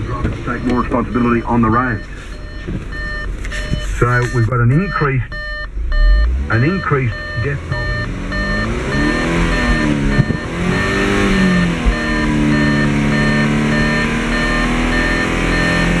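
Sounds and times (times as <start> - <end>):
dashboard warning chime beeping: 0.0 - 16.0.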